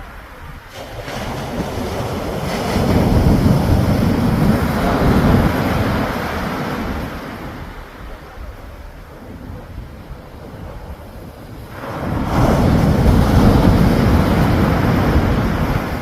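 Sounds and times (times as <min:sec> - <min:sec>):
sea wave crashing: 0:00.0 - 0:16.0
wind rumbling on microphone: 0:00.0 - 0:16.0.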